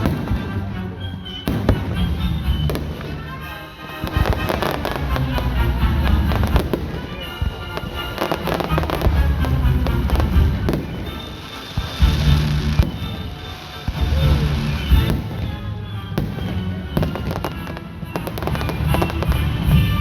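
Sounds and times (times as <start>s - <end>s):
fireworks bursting and crackling: 0.0s - 20.0s
show music: 0.0s - 20.0s.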